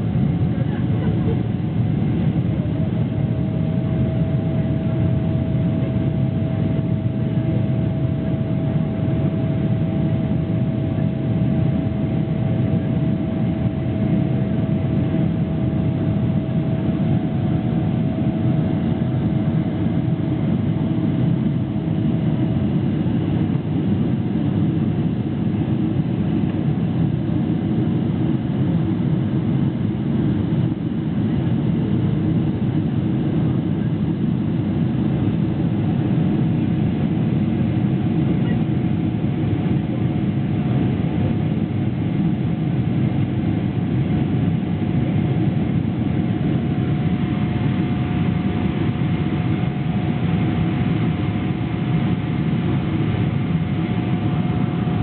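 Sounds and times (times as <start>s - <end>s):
jet engine and airflow rush: 0.0s - 55.0s
thin steady whine: 0.0s - 55.0s.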